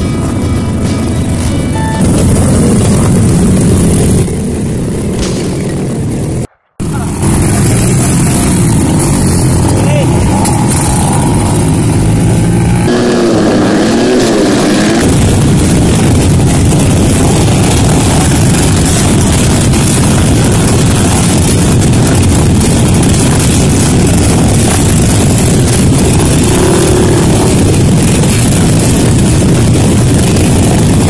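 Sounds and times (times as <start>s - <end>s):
many motorcycle engines running: 0.0s - 31.0s
dirt bike engine revving: 1.9s - 31.0s.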